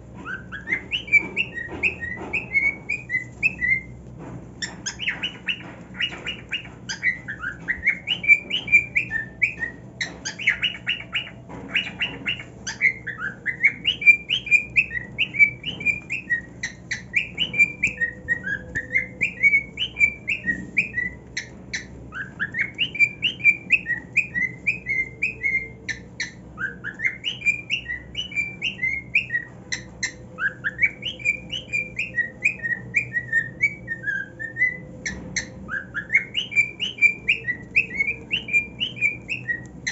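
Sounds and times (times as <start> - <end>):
cockatiel singing: 0.0 - 39.9.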